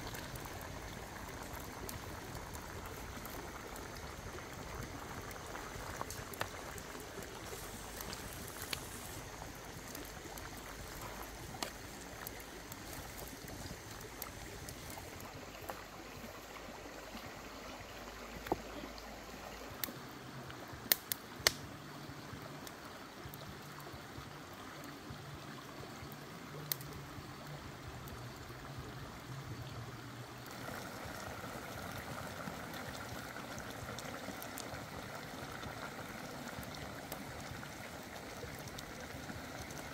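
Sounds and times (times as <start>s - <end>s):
curry simmering: 0.0s - 20.5s, 27.4s - 39.9s
stream flowing over rocks: 0.0s - 39.9s.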